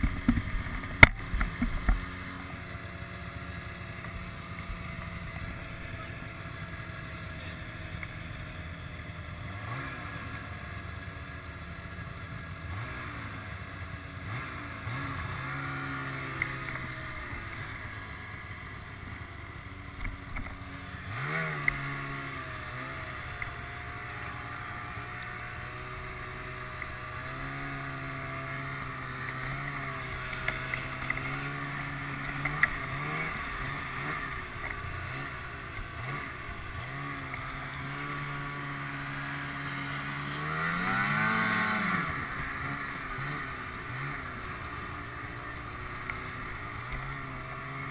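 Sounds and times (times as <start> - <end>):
snowmobile engine running: 0.0 - 47.9.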